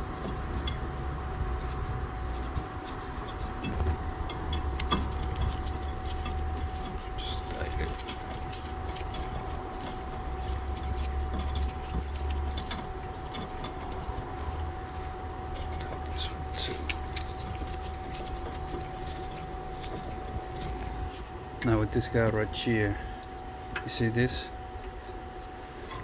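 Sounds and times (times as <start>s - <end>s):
tools and brake parts clicking: 0.0s - 1.8s, 2.4s - 26.0s
mid-pitched hum: 0.0s - 26.0s.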